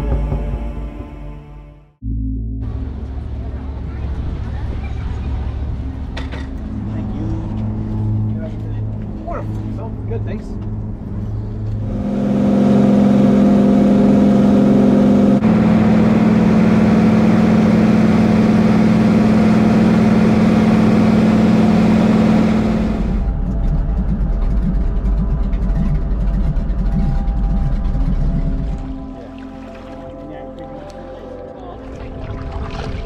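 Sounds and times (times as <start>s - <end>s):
vehicle engine running: 2.6s - 29.3s.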